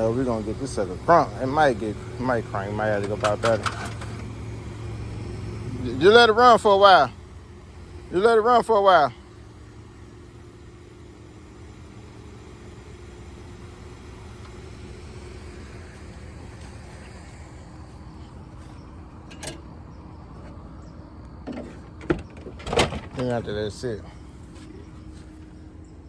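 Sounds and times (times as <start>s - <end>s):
pickup engine idling: 0.0s - 26.0s.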